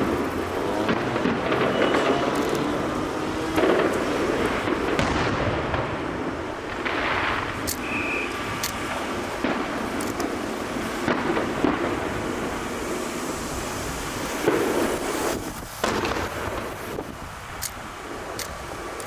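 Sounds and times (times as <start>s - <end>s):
fireworks rumble: 0.0s - 19.0s
sharp firework cracks: 0.0s - 19.0s.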